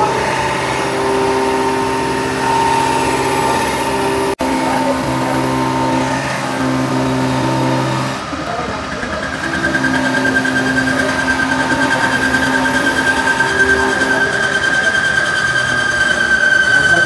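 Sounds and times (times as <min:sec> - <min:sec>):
high-pitched machine whine: 0:00.0 - 0:17.0
surface grinder grinding metal: 0:00.0 - 0:17.0.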